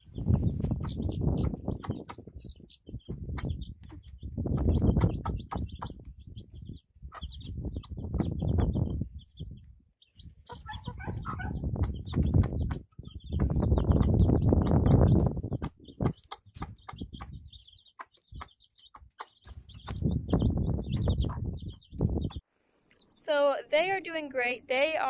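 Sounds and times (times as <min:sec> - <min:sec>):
chicks peeping: 0:00.0 - 0:22.4
hen clucking: 0:00.2 - 0:22.4.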